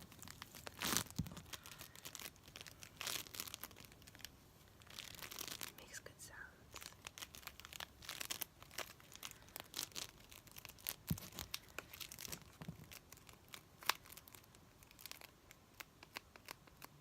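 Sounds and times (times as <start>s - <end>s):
plastic packaging crinkling and tearing: 0.0s - 6.0s, 6.7s - 17.0s.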